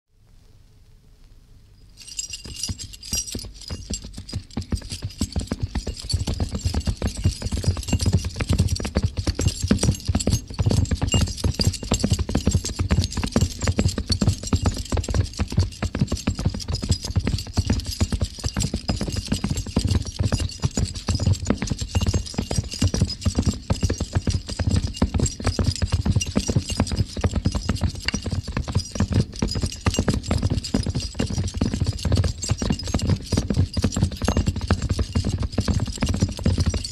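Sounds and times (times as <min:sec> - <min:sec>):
horses galloping: 0:02.0 - 0:36.9.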